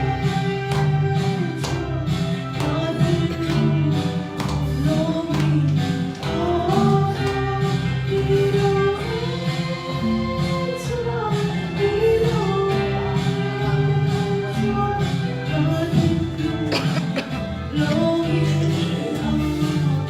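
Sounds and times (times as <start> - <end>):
instrumental accompaniment with beat: 0.0 - 20.0
voices singing gospel song: 0.0 - 20.0.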